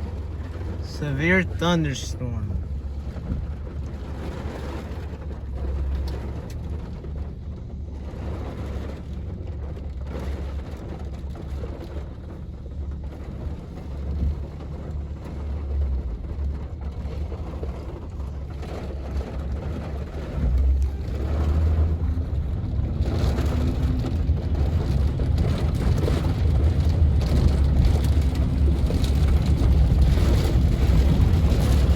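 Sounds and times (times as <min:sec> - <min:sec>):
rain rushing: 0:00.0 - 0:31.9.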